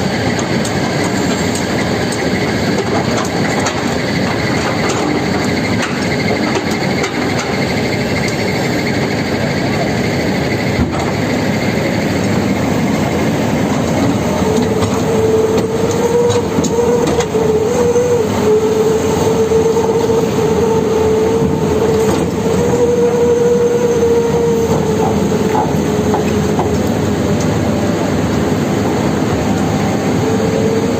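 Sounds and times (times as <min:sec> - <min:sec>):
heavy diesel machinery running: 0:00.0 - 0:30.9
wavering whine: 0:00.0 - 0:30.9.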